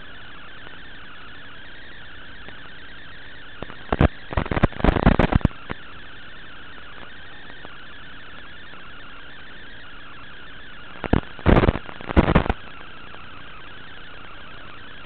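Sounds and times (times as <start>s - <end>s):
radio crackles and pops: 0.0s - 15.0s
steady radio hiss: 0.0s - 15.0s.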